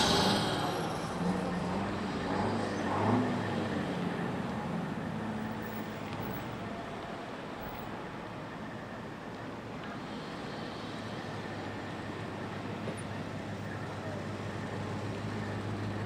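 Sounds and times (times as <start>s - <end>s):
vehicles driving slowly past: 0.0s - 16.0s.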